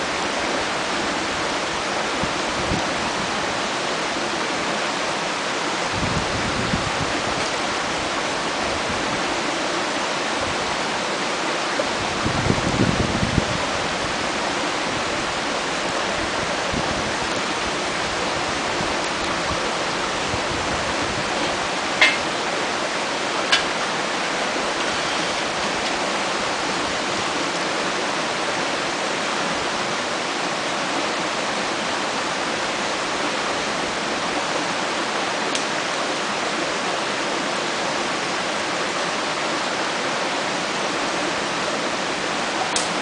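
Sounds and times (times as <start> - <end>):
stream rushing: 0.0 - 43.0.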